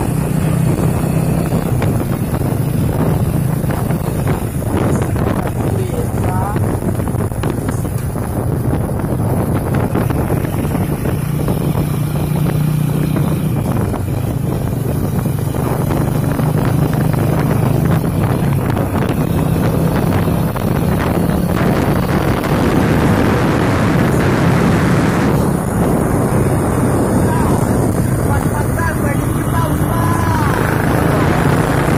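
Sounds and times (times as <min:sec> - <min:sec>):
truck engine humming: 0:00.0 - 0:31.9
wind noise on microphone: 0:00.0 - 0:31.9.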